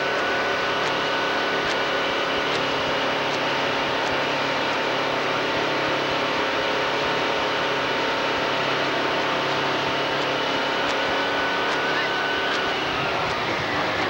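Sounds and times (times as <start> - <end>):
road noise: 0.0 - 14.0
truck engine running: 0.0 - 14.0.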